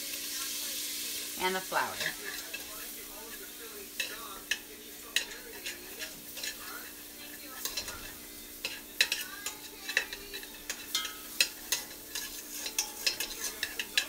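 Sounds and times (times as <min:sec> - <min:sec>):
light sizzle: 0:00.0 - 0:14.0
metal utensil scraping steel pot: 0:01.7 - 0:14.0.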